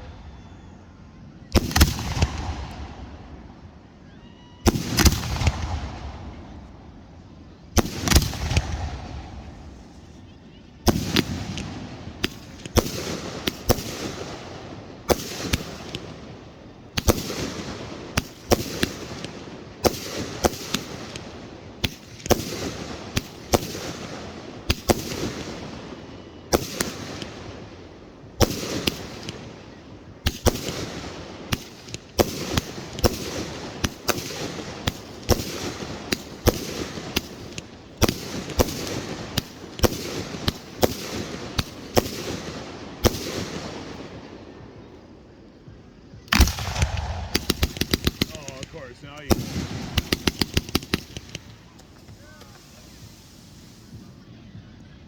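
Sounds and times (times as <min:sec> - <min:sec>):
fireworks bangs with rumbling echo: 0:01.5 - 0:03.7, 0:04.7 - 0:07.1, 0:07.7 - 0:54.9.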